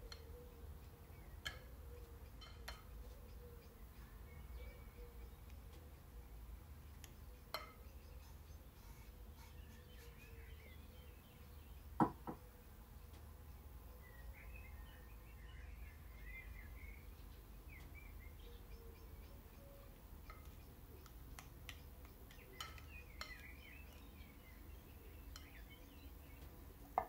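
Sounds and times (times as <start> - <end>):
faint chirping: 0.0 - 27.0.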